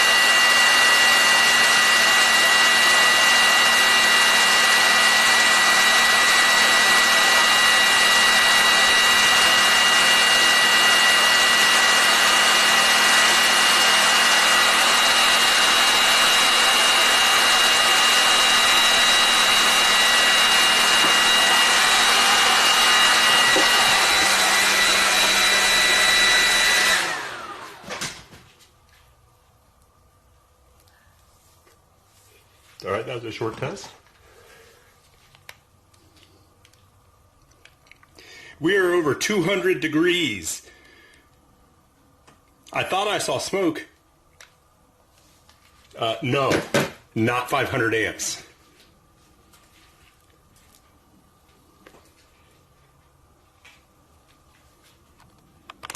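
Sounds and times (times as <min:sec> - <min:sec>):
electric cooling fan whining: 0:00.0 - 0:55.9.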